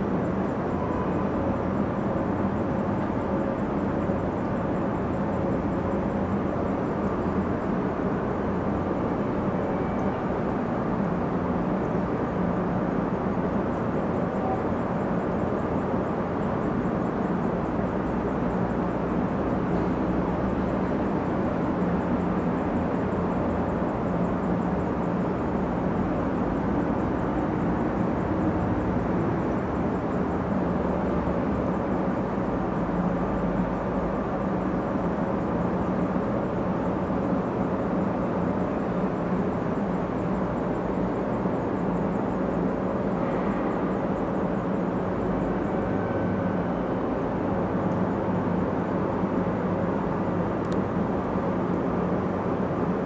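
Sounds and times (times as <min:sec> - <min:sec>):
faint continuous hum: 0:00.0 - 0:53.0
low rumbling background noise: 0:00.0 - 0:53.0.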